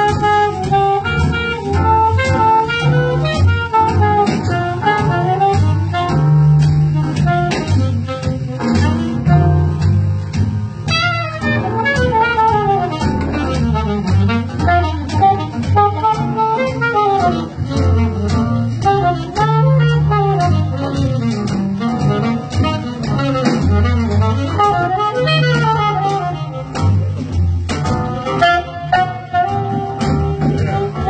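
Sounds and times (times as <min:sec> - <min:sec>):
saxophone melody: 0:00.0 - 0:10.1, 0:10.8 - 0:31.0
double bass: 0:00.0 - 0:31.0
drums: 0:00.0 - 0:31.0.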